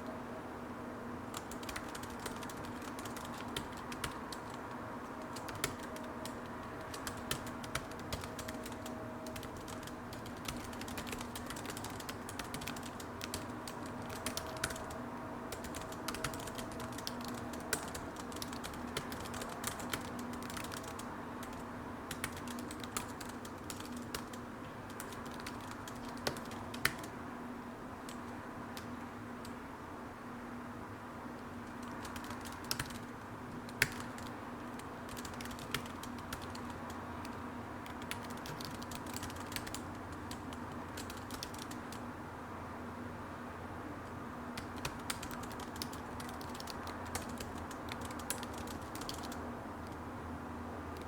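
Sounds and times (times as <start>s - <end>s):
steady low hum: 0.0s - 51.0s
computer keyboard typing: 1.3s - 27.2s, 28.0s - 29.6s, 31.6s - 42.0s, 44.5s - 50.0s.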